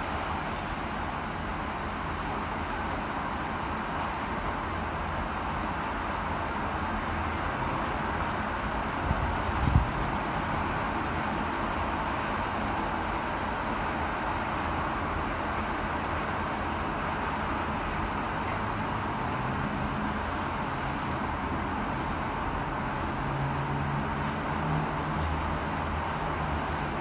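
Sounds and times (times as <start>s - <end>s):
city traffic hum: 0.0s - 27.0s.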